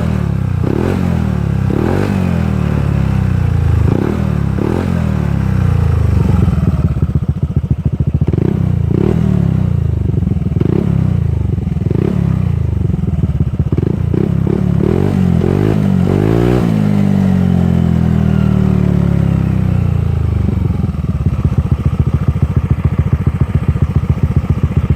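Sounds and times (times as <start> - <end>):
scooter engine revving: 0.0 - 24.9.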